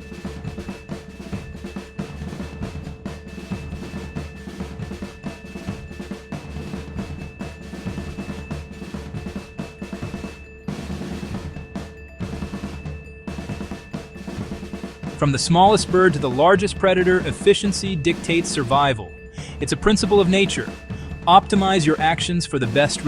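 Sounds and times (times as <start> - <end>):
upbeat drum-driven music: 0.0 - 23.0.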